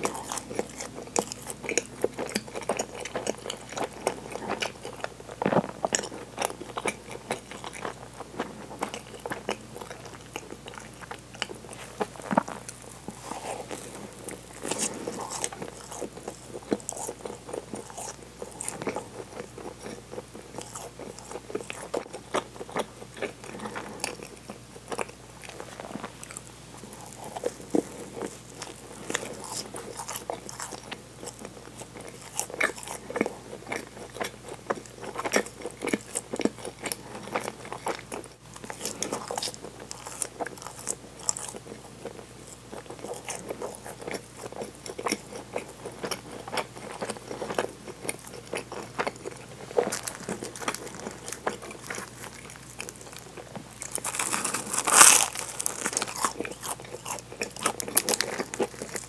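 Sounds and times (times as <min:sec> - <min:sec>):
crunching crusty bread: 0:00.0 - 0:59.0.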